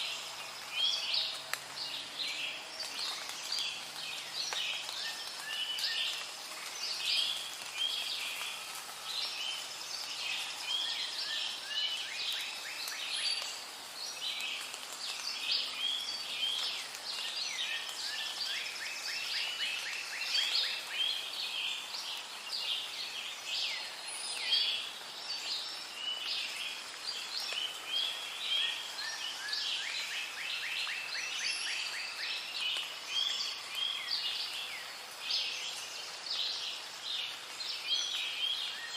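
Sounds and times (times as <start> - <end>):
chorus of birds calling: 0.0 - 38.9
faint steady hiss: 0.0 - 38.9.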